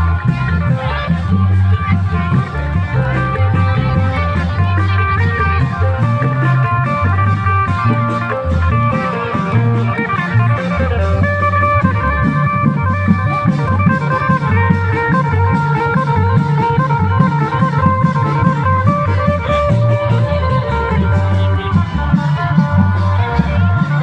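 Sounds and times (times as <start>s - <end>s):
long drums beating: 0.0s - 24.0s
plucked string melody: 0.0s - 24.0s.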